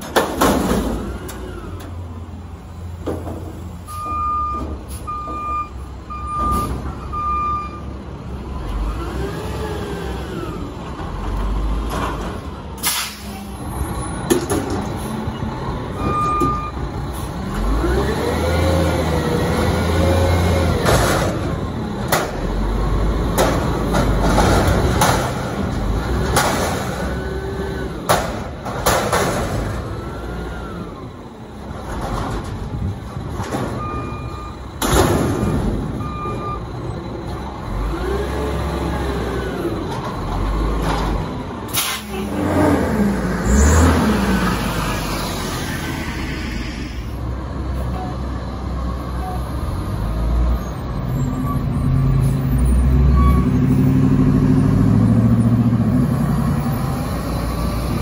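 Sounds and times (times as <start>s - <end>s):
garbage truck engine revving: 8.2s - 47.4s, 49.5s - 58.0s.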